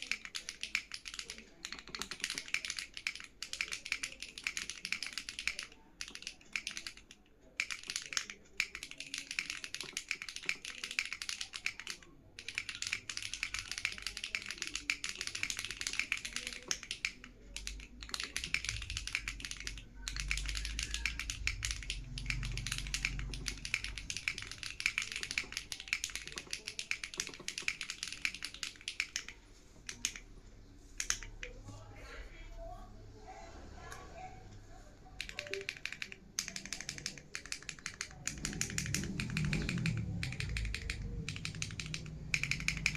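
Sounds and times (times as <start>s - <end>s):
fast typing on mechanical keyboard: 0.0s - 30.3s, 31.0s - 31.6s, 35.2s - 42.9s.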